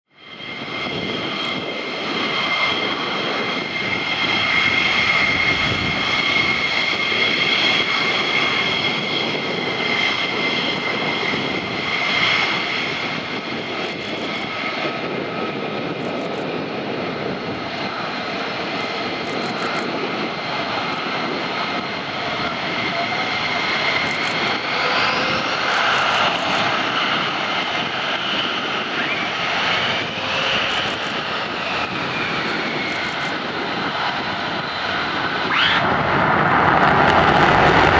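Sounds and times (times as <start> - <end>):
jet engines whining: 0.2 - 37.9.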